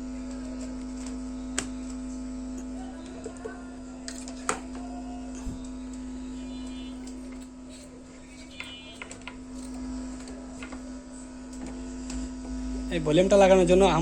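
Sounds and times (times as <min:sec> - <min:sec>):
speaker mains hum: 0:00.0 - 0:14.0.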